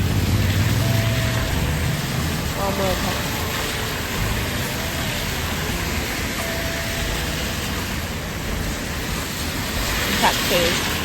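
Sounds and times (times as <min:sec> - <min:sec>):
rain hissing: 0:00.0 - 0:11.0
road traffic passing: 0:00.0 - 0:11.0.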